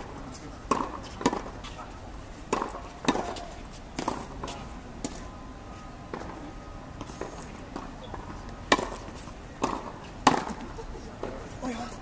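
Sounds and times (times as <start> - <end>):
tennis balls bouncing on court: 0.0 - 1.8, 2.5 - 5.3, 6.1 - 11.5
tennis balls struck by rackets: 0.0 - 1.9, 2.5 - 5.3, 6.1 - 11.5.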